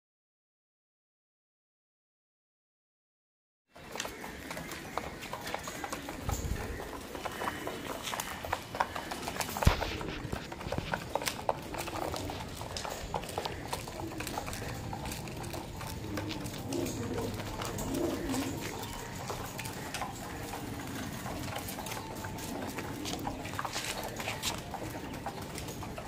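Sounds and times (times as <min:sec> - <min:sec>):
birds rustling in wire cages: 0:03.8 - 0:26.0
pigeons cooing: 0:03.8 - 0:26.0.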